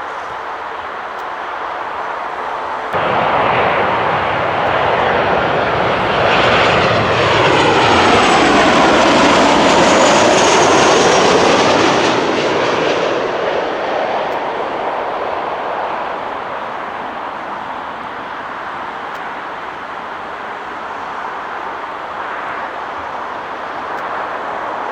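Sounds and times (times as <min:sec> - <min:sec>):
jet airliner passing: 0:00.0 - 0:24.9.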